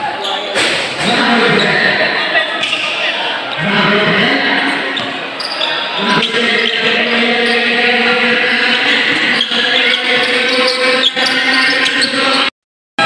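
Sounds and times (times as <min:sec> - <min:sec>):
spectators talking and shouting: 0:00.0 - 0:12.5.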